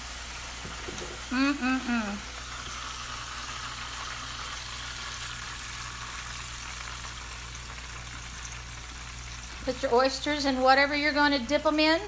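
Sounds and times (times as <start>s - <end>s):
oil bubbling in a deep fryer: 0.0s - 12.0s.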